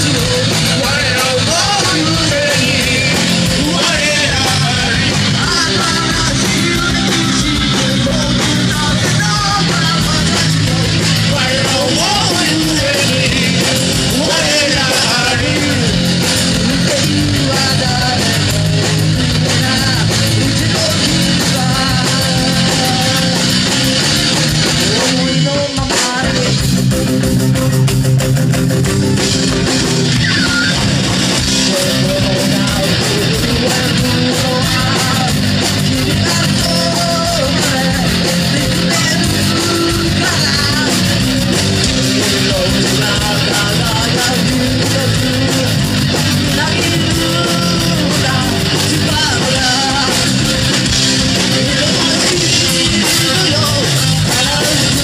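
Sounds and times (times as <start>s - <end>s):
rock band playing loud: 0.0s - 55.0s.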